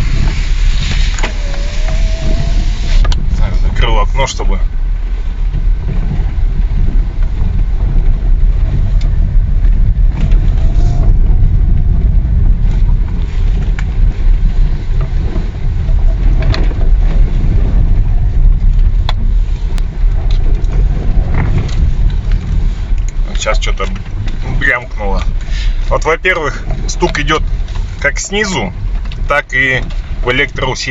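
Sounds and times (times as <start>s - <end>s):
tyres and suspension rumbling: 0.0s - 30.9s.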